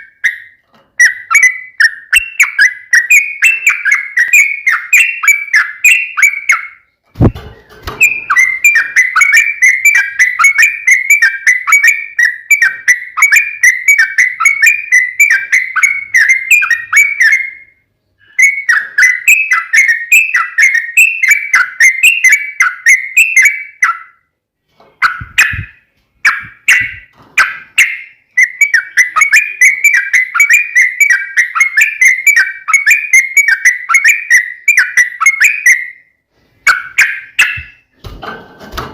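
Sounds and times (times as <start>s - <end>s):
bird calls: 0.0s - 24.2s, 24.9s - 38.0s.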